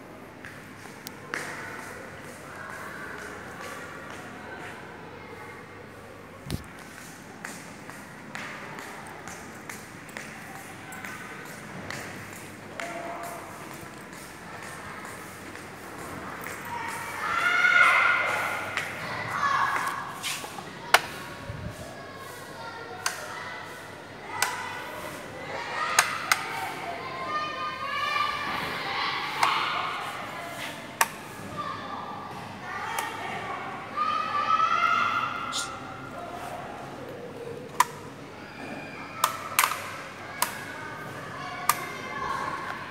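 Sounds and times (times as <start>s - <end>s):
faint steady background noise: 0.0s - 42.9s
faint voices: 0.0s - 42.9s.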